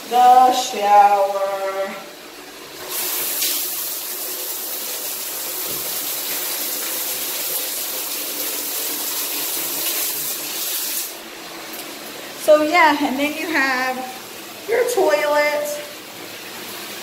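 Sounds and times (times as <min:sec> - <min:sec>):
shower spraying on tiles: 0:02.8 - 0:17.0.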